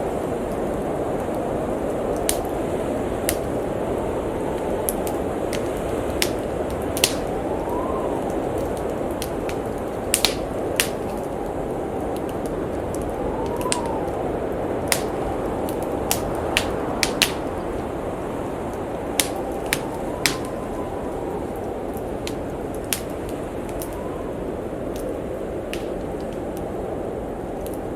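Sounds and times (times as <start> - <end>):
blizzard wind howling: 0.0 - 27.9
fire popping: 0.0 - 27.9
wood fire crackling: 0.0 - 27.9.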